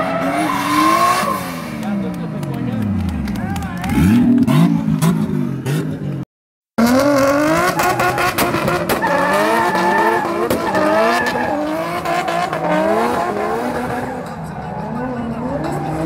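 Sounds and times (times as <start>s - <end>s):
car engines revving: 0.0s - 6.2s, 6.8s - 16.0s
tyres skidding and squealing: 0.0s - 6.2s, 6.8s - 16.0s.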